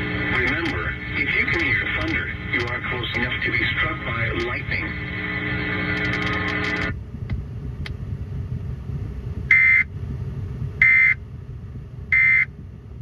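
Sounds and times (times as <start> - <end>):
low radio hiss: 0.0 - 12.6.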